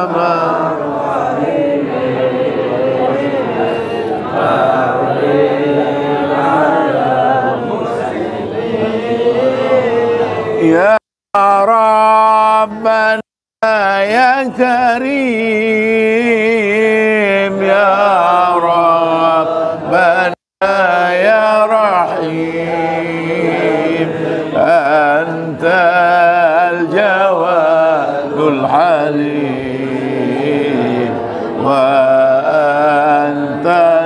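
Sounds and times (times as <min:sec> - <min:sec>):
men chanting together: 0:00.0 - 0:11.7, 0:13.8 - 0:34.0.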